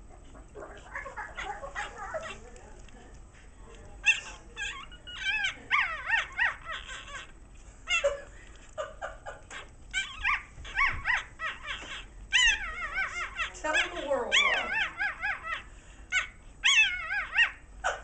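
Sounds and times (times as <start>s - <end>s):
puppies squealing and whimpering: 0.6s - 2.6s, 4.0s - 18.0s.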